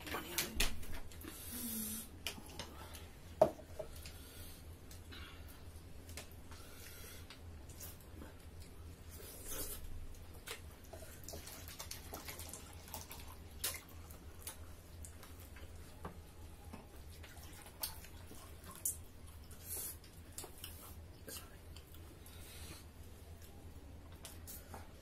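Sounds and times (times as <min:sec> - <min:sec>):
low steady hum: 0:00.0 - 0:25.0
people chewing: 0:03.9 - 0:16.0, 0:16.6 - 0:25.0.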